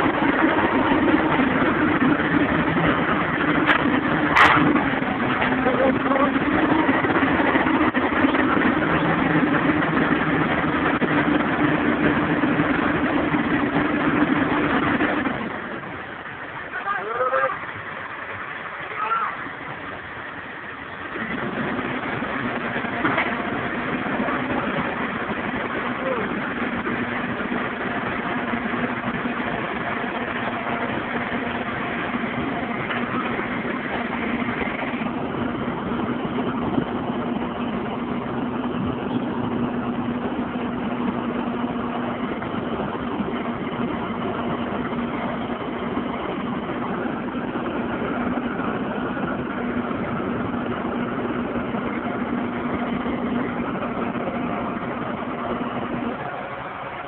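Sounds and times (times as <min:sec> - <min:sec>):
crane engine humming: 0:00.0 - 0:57.0.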